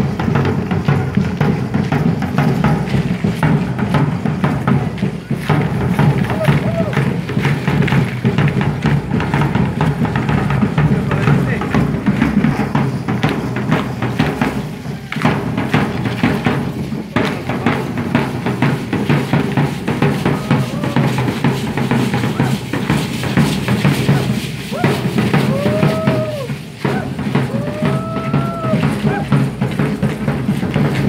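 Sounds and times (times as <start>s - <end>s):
dancers' steps: 0.0s - 31.0s
procession drum beating: 0.0s - 31.0s.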